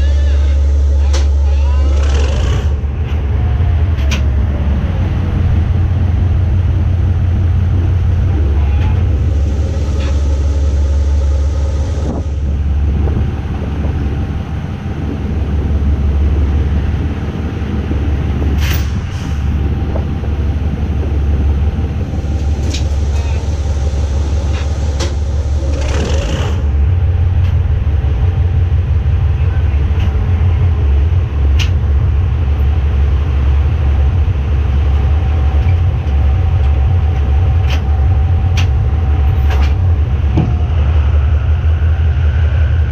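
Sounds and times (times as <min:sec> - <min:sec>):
locomotive engine rumble: 0:00.0 - 0:42.9.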